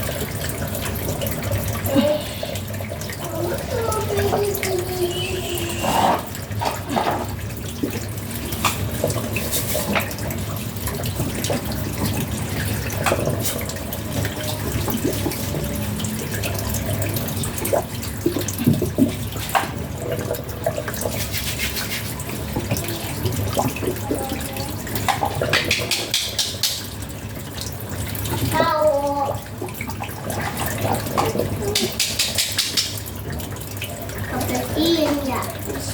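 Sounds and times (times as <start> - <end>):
water running from a tap: 0.0 - 35.9.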